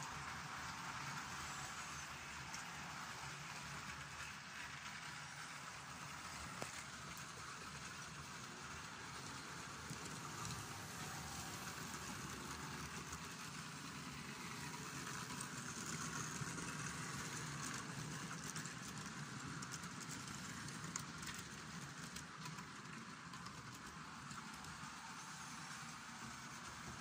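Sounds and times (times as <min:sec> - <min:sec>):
model train motor hum: 0:00.0 - 0:27.0.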